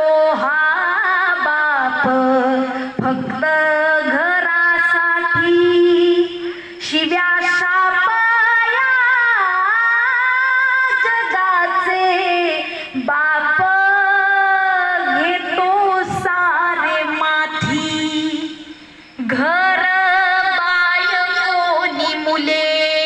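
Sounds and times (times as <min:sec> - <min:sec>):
woman singing into a microphone: 0:00.0 - 0:23.0.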